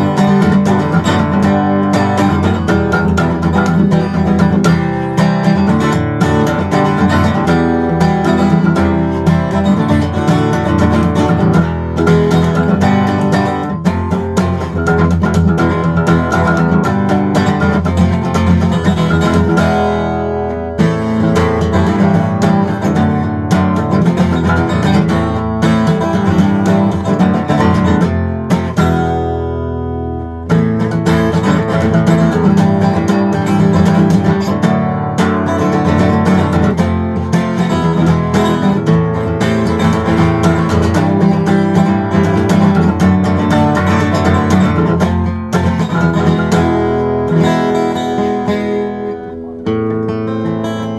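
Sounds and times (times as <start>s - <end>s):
acoustic guitar playing: 0.0s - 50.9s.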